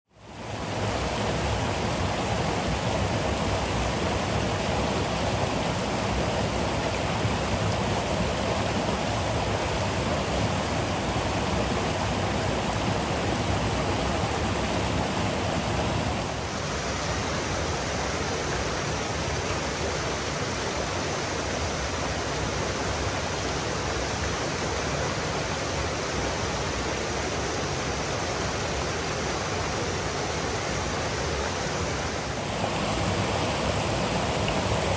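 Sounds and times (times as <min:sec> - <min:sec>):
water rushing over a weir: 0:00.1 - 0:34.9.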